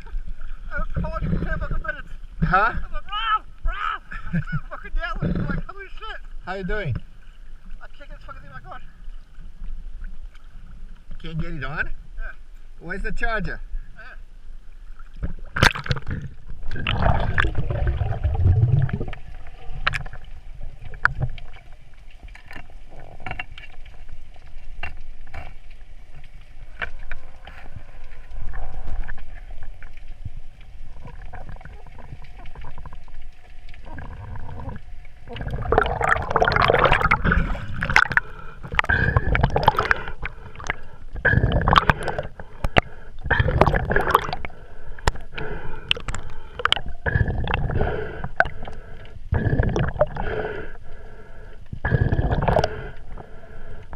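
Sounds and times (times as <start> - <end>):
water sloshing and gurgling: 0.0 - 53.9.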